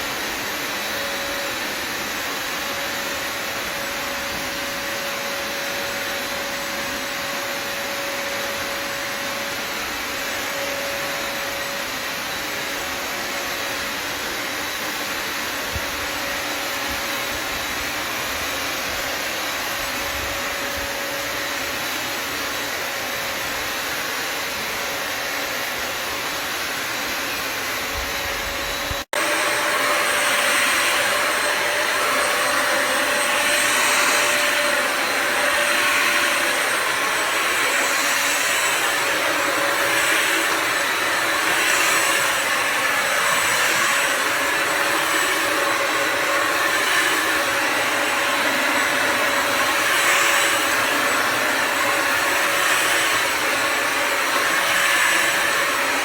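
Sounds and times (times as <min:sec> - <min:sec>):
vacuum and steam mop motor running: 0:00.0 - 0:56.0.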